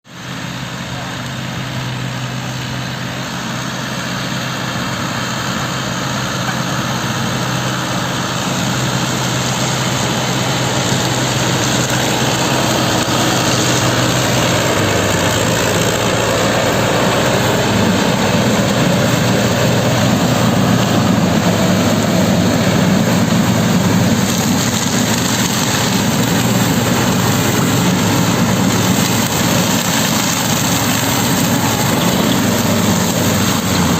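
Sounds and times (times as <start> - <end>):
tractor engine running: 0.0 - 33.9
mulcher shredding dry leaves: 0.1 - 33.9.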